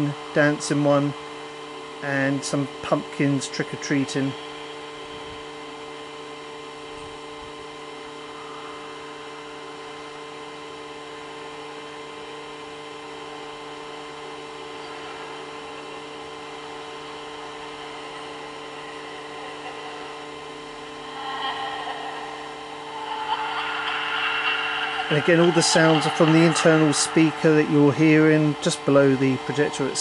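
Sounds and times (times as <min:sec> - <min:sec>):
projector hum: 0:00.0 - 0:30.0.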